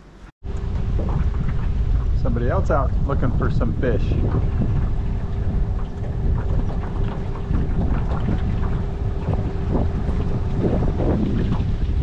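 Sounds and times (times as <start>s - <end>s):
boat motor humming: 0.0s - 12.0s
wind buffeting microphone: 0.4s - 12.0s.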